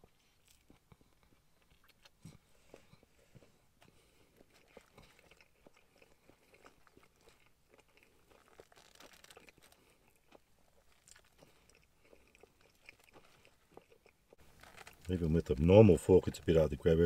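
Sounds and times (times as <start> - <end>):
person chewing crunchy food: 0.0 - 16.6.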